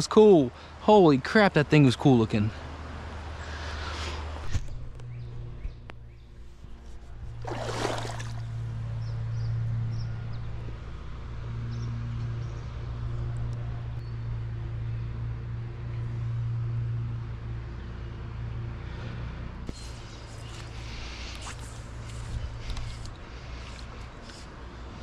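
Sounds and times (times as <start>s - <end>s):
low engine drone: 2.7s - 25.0s.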